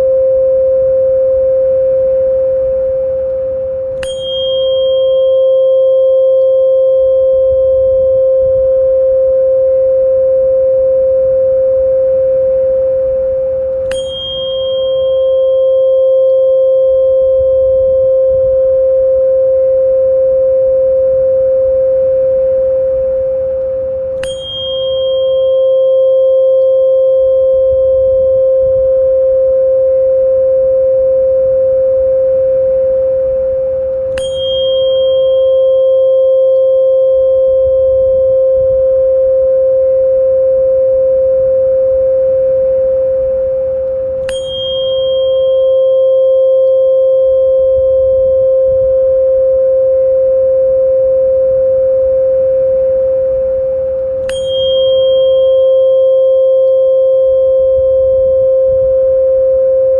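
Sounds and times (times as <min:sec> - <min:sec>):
steady pure tone: 0:00.0 - 0:59.9.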